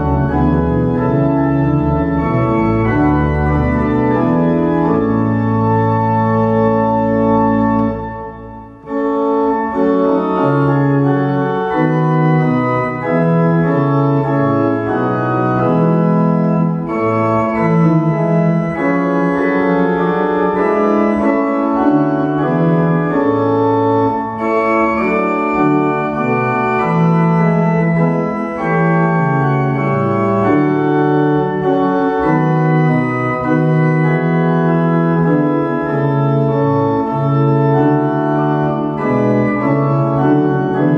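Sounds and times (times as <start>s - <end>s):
organ playing sustained chords: 0.0s - 40.9s.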